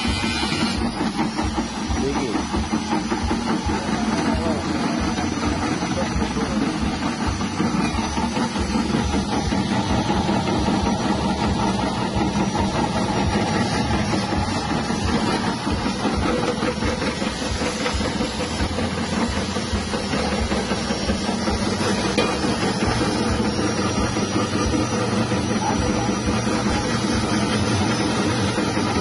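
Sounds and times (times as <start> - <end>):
slicing machine motor humming: 0.0 - 29.0.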